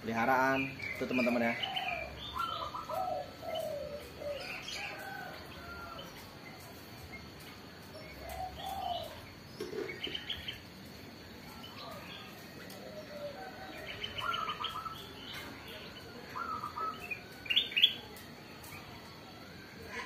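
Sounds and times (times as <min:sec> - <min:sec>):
birds chirping in rapid trills: 0:00.0 - 0:20.0.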